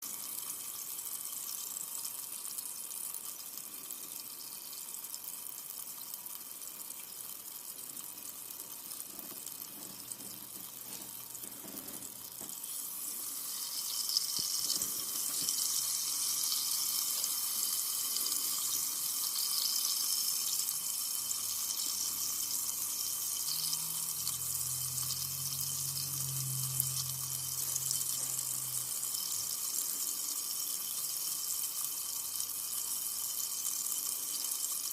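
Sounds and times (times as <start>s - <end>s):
soda fizzing: 0.0s - 34.9s.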